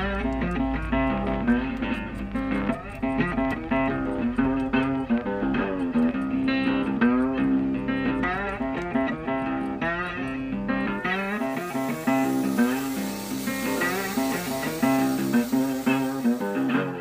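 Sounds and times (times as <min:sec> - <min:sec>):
plucked guitar with sliding notes: 0:00.0 - 0:17.0.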